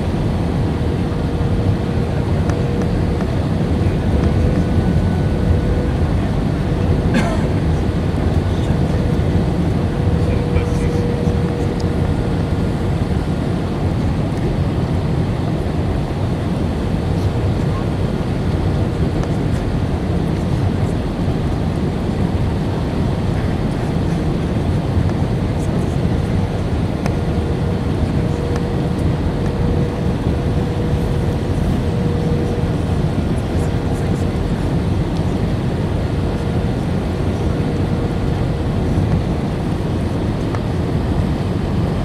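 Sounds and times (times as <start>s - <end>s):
airplane cabin roar: 0.0s - 42.0s
faint steady whine: 0.0s - 42.0s.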